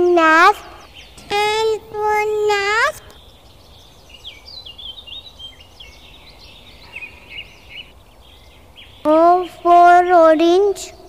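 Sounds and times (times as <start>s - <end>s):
faint background noise: 0.0s - 11.0s
songbird chirping and trilling: 0.0s - 11.0s.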